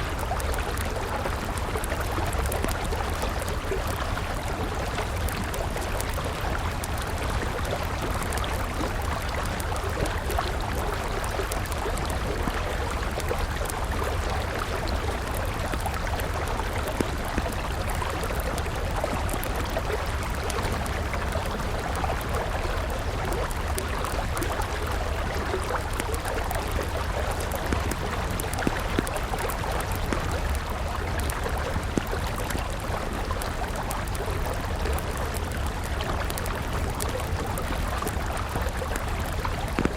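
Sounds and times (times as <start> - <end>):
river water flowing: 0.0 - 39.9
wood fire crackling: 0.0 - 39.9.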